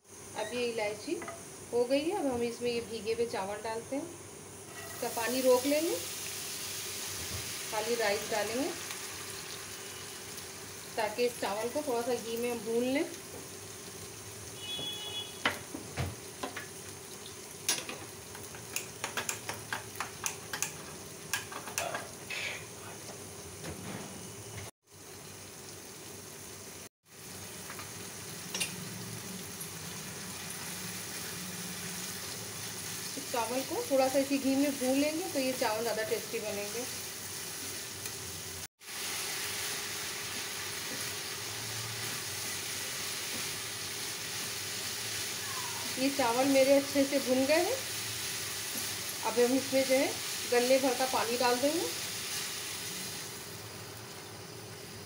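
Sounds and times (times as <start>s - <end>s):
rice sizzling in oil: 0.0s - 23.6s, 24.2s - 55.0s.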